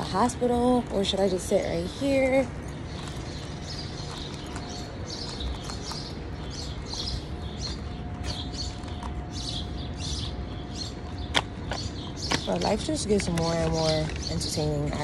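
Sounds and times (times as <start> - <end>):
low background rumble: 0.0 - 15.0
small birds chirping: 0.0 - 15.0.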